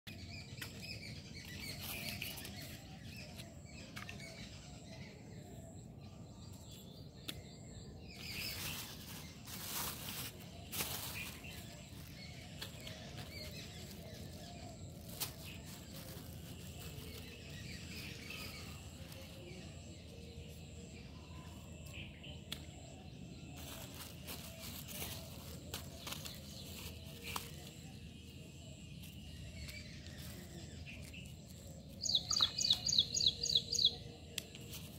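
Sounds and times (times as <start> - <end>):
faint bird chirps: 0.1 - 34.9.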